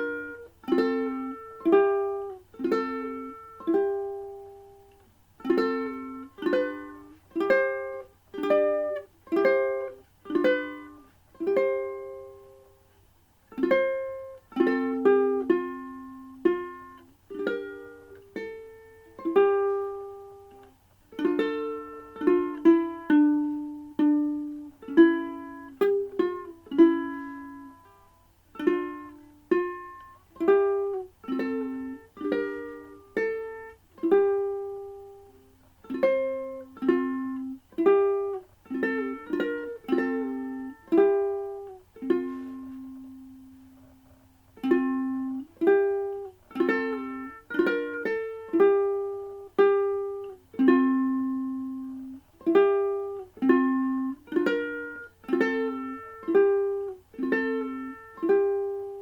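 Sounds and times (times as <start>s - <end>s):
ukulele playing hymn melody: 0.0s - 59.0s.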